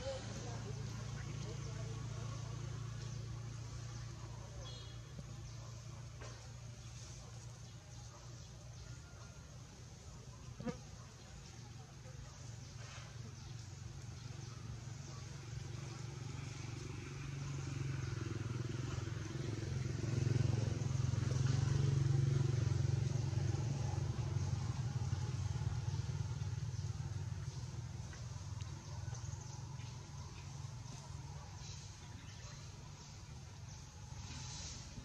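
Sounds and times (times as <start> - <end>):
vehicle engine passing: 0.0 - 7.3, 12.8 - 35.0.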